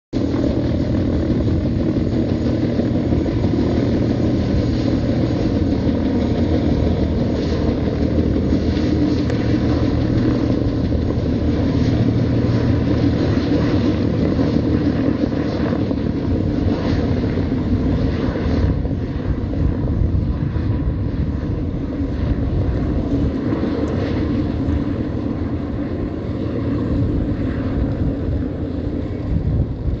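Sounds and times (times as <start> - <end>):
helicopter flying overhead: 0.1 - 30.0.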